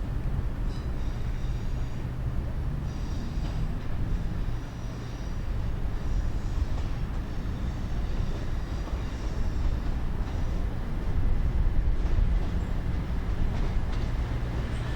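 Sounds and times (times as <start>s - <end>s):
passenger train rumbling: 0.0s - 14.9s.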